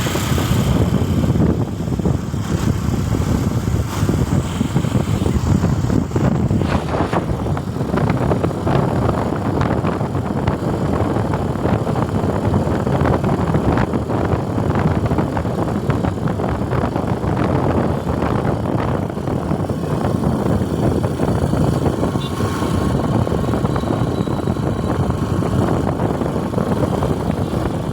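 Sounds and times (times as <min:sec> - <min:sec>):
vehicle road and engine noise: 0:00.0 - 0:27.9
wind rumbling over microphone: 0:00.0 - 0:27.9.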